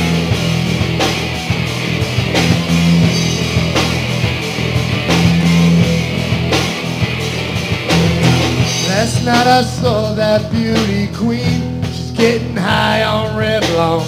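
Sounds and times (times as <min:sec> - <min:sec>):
drum kit: 0:00.0 - 0:14.0
electric guitar chords: 0:00.0 - 0:14.0.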